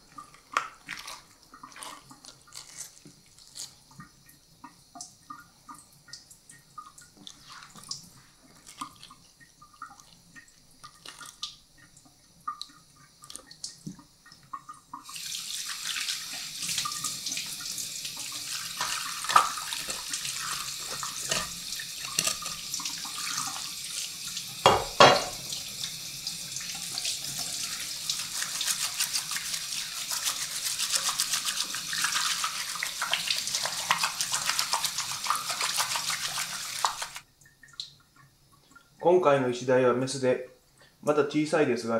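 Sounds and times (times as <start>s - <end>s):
tap water running into sink: 0.0s - 39.0s.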